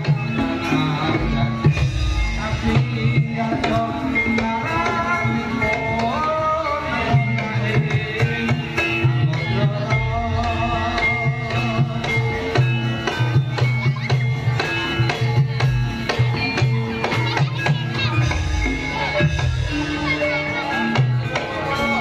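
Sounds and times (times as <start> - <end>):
ringing metallophone tones: 0.0 - 22.0
wavering melody line: 0.0 - 22.0.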